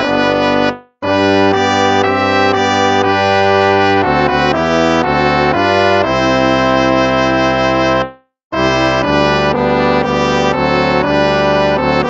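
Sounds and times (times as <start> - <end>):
instrumental hymn chords: 0.0 - 12.0.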